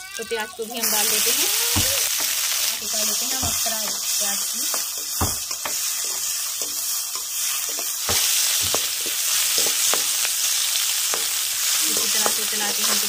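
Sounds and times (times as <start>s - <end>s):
onions sizzling in hot oil: 0.0s - 13.0s
metal spoon scraping a pan: 2.1s - 13.0s.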